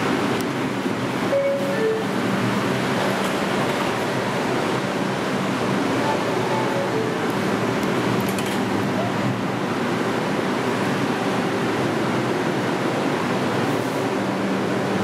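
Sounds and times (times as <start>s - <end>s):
subway train idling rushing noise: 0.0s - 15.0s.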